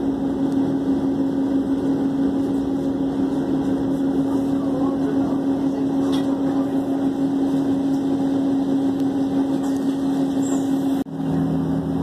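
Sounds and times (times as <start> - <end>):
train carriage hum and rumble: 0.0 - 12.0.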